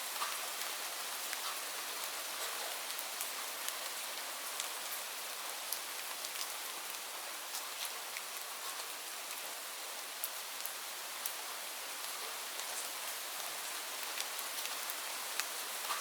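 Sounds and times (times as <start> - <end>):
steady rain hiss: 0.0 - 16.0
close raindrop drips: 0.1 - 16.0.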